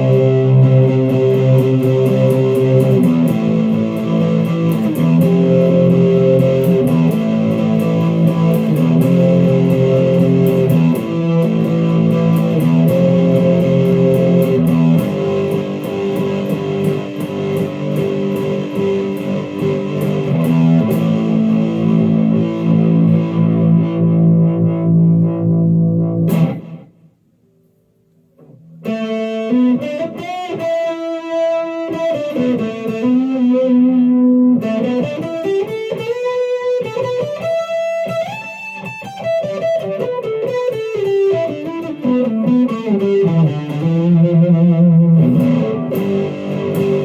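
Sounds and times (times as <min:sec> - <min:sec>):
distorted electric guitar chords: 0:00.0 - 0:27.1, 0:28.4 - 0:47.0.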